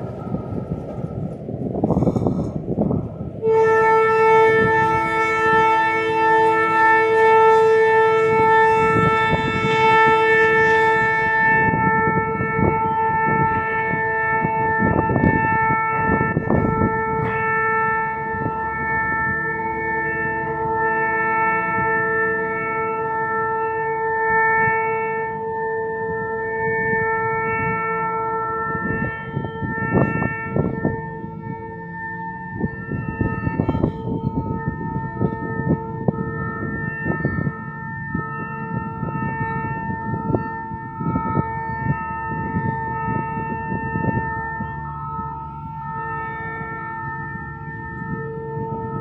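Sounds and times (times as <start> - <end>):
locomotive air horn: 0.0 - 49.0
rumbling wind and road noise: 0.0 - 49.0.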